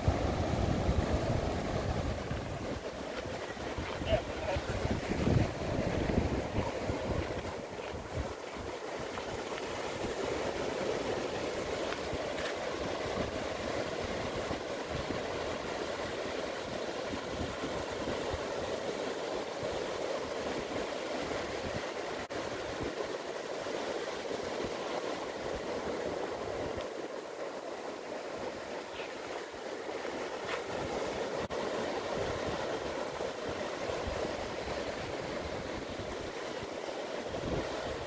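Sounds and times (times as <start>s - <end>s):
surf breaking on beach: 0.0s - 38.0s.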